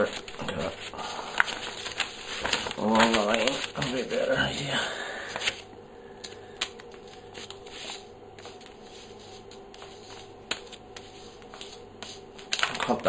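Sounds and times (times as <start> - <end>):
paper scratching and rustling: 0.0 - 5.6, 6.9 - 13.0.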